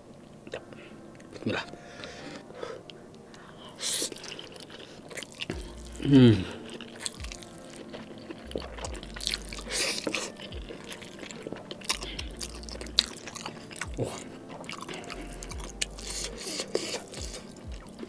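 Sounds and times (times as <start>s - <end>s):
chewing with wet mouth smacks: 0.4s - 18.0s
noodles being slurped: 3.4s - 18.0s.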